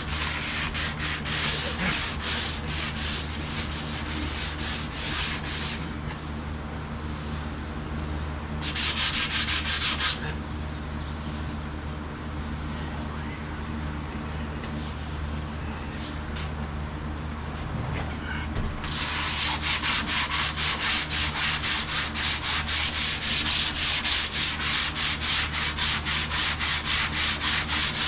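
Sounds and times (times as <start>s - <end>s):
hand sanding sheet metal: 0.0s - 16.2s, 18.9s - 28.0s.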